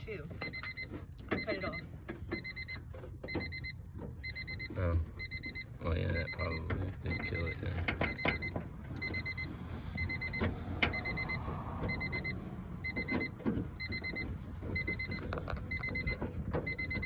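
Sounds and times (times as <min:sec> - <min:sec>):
car warning chime beeping: 0:00.0 - 0:17.0.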